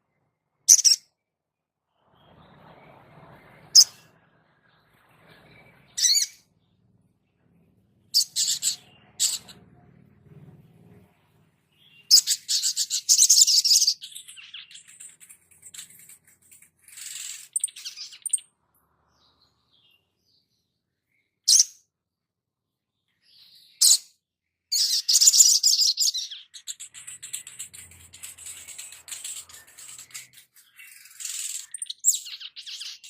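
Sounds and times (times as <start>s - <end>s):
songbirds chattering twitters: 0.7s - 1.0s, 2.2s - 7.4s, 8.1s - 9.7s, 11.7s - 21.8s, 23.1s - 33.0s.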